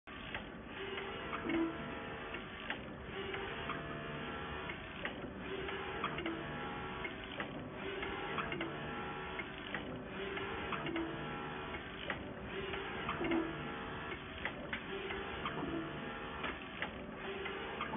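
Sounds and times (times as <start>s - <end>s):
printer carriage humming: 0.1s - 17.9s.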